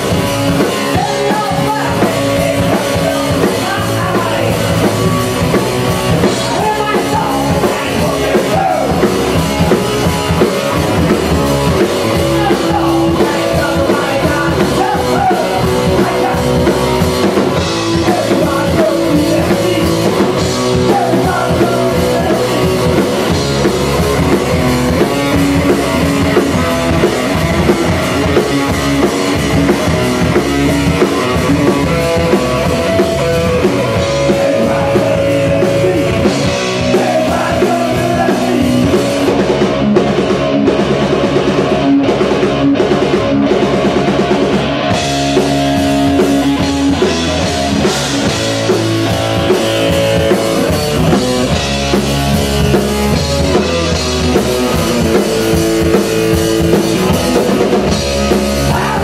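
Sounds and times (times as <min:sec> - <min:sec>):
drum kit beat: 0:00.0 - 0:59.0
electric guitar: 0:00.0 - 0:59.0.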